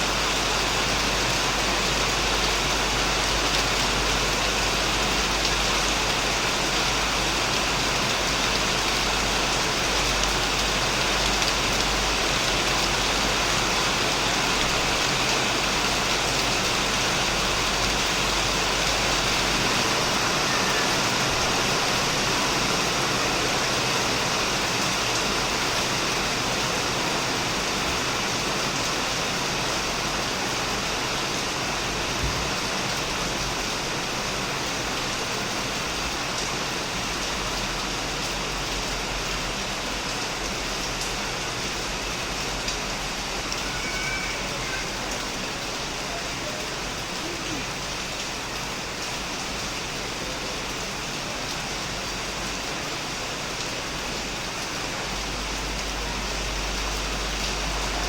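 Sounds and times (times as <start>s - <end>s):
heavy rain on a shed: 0.0s - 58.0s.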